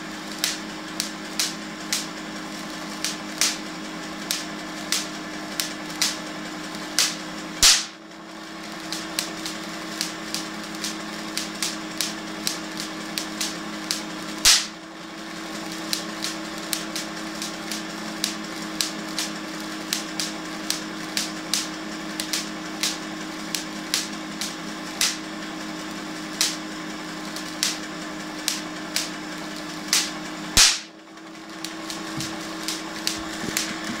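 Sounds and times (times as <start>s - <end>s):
generator humming: 0.0s - 34.0s
loud spark cracks: 0.1s - 8.0s, 8.8s - 14.8s, 15.6s - 31.0s, 31.7s - 33.8s
small electric sparks snapping: 0.1s - 8.0s, 8.7s - 14.8s, 15.5s - 31.0s, 31.6s - 34.0s.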